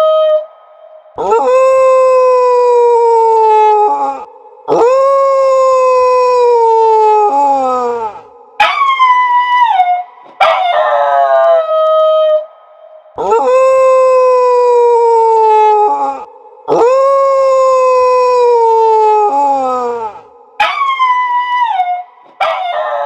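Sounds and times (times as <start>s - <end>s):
dog howling: 1.2s - 12.6s, 13.2s - 23.0s.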